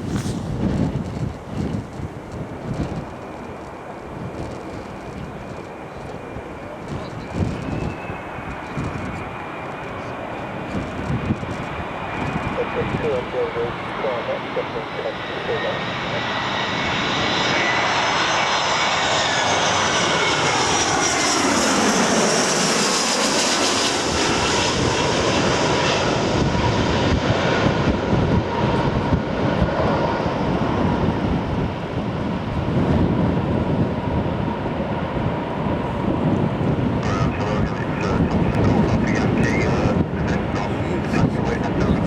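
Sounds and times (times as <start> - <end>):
jet engines passing: 0.0 - 42.0.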